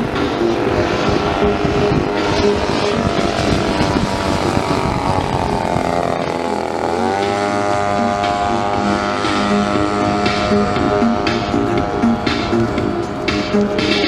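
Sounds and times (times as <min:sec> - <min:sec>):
model airplane engine: 0:00.0 - 0:14.0.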